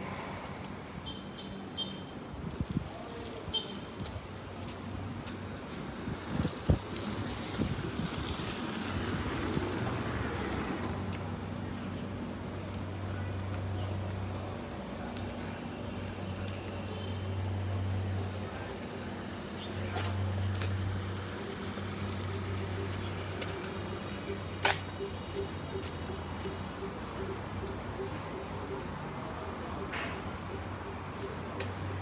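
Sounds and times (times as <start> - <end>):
vehicle engine humming: 4.4 - 32.0.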